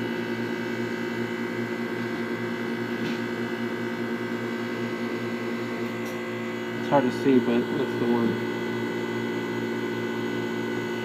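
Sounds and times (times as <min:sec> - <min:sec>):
electric motor hum and whine: 0:00.0 - 0:11.0.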